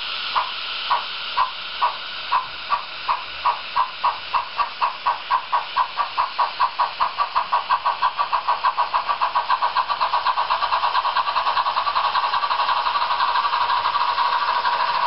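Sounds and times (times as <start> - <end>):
model steam locomotive chuffs: 0.0 - 15.0.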